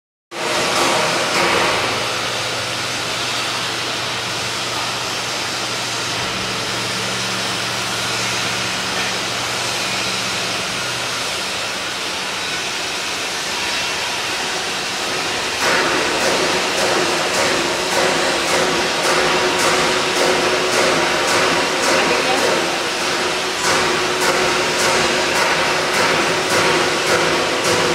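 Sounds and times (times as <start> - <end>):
mechanical whir: 0.4 - 27.9.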